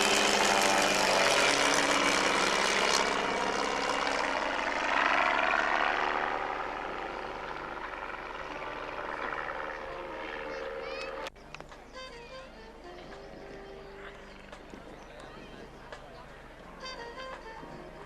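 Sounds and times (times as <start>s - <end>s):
propeller aeroplane flying past: 0.0s - 18.0s.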